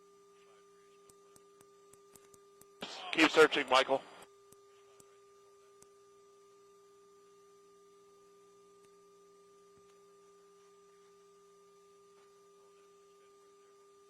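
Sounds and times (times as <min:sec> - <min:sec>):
intercom hum with tones: 0:00.0 - 0:14.0.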